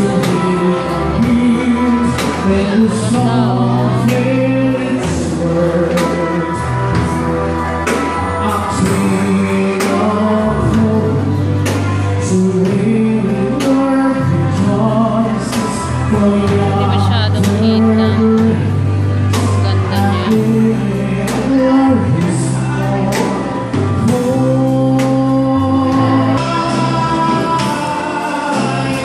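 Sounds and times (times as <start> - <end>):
bass line: 0.0 - 29.0
person singing: 0.0 - 29.0
steady drum beat: 0.0 - 29.0.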